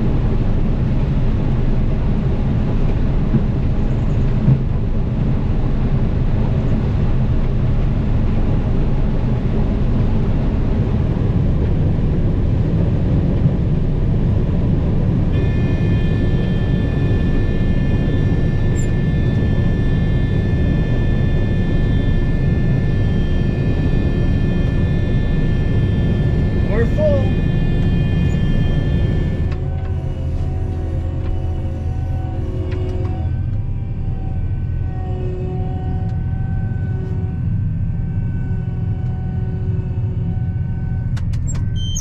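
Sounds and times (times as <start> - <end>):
engine rumble: 0.0 - 42.0
steady high whine: 0.0 - 42.0.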